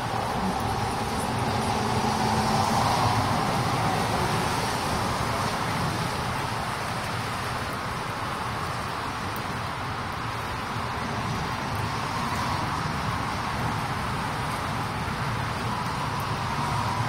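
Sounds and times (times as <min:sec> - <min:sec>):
car tyres hissing on wet road: 0:00.0 - 0:17.0.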